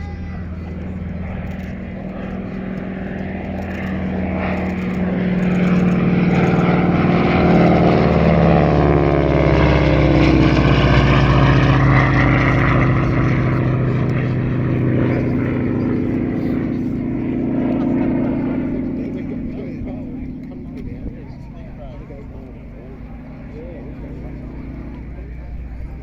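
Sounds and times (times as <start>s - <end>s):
propeller plane passing low: 0.0s - 26.0s.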